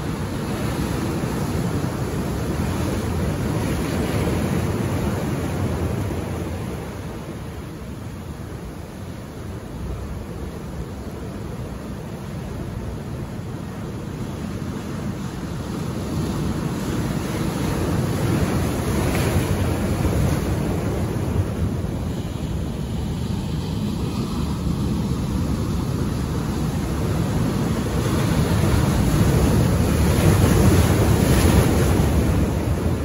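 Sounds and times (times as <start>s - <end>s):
ocean surf breaking on rocks: 0.0s - 33.0s.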